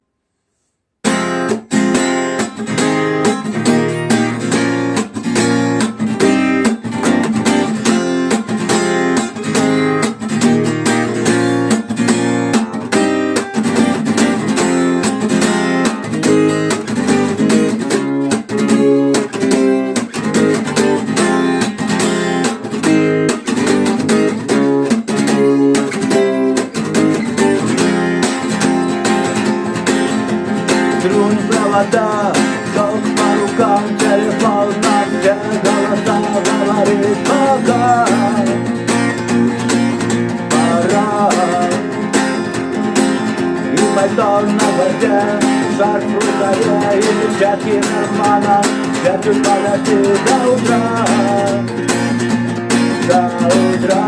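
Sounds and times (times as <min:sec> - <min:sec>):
acoustic guitar strumming: 0:01.0 - 0:54.0.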